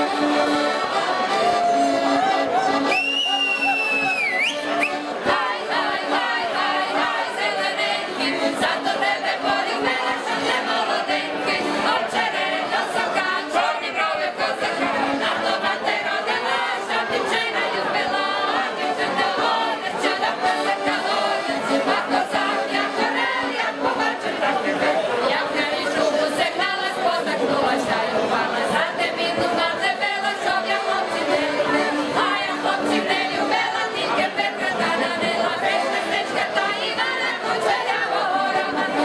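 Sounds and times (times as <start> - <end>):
mixed choir singing a cappella: 0.0 - 2.6, 4.9 - 39.0.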